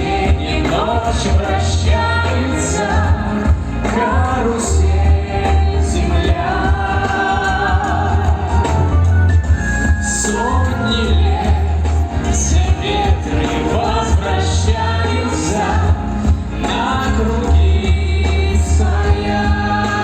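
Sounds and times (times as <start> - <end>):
heavy bass: 0.0 - 20.0
singers performing over a band: 0.0 - 20.0.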